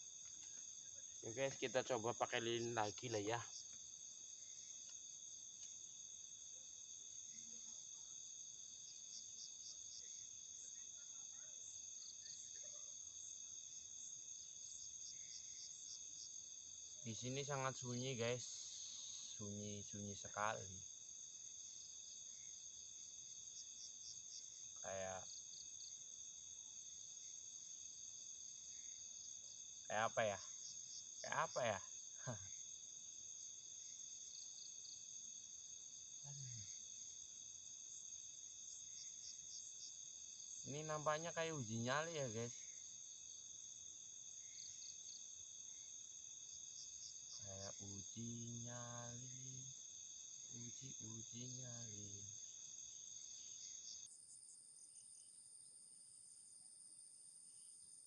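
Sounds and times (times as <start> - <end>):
crickets and insects trilling: 0.0 - 58.0
short insect chirps: 8.8 - 58.0.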